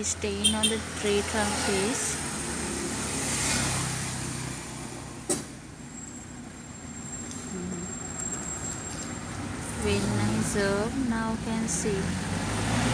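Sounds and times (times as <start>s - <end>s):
vehicle engine rumble: 0.0s - 12.9s.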